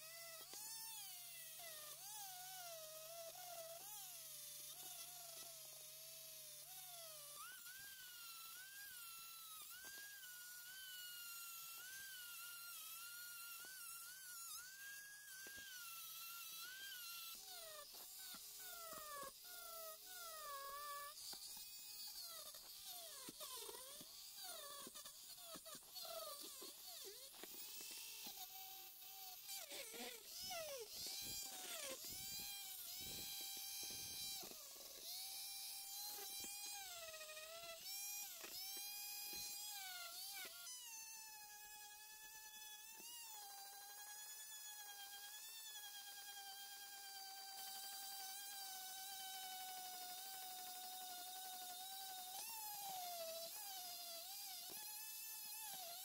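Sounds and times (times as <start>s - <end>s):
rotary tool whining against metal: 0.0s - 56.0s.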